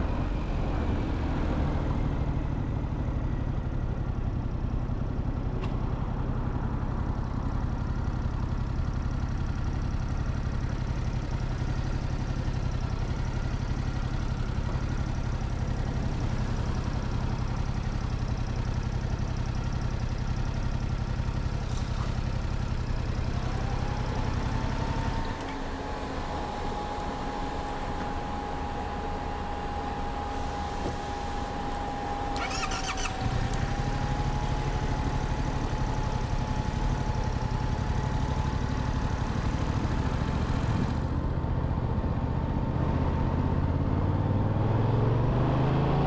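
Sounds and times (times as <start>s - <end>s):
motorcycle engine running: 1.4s - 25.3s, 31.8s - 45.4s.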